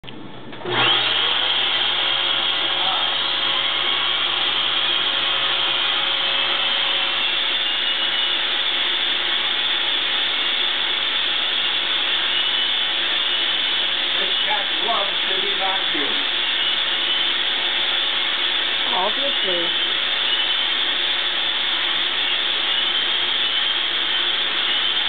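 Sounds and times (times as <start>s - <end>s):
vacuum cleaner motor whine: 0.5s - 25.0s.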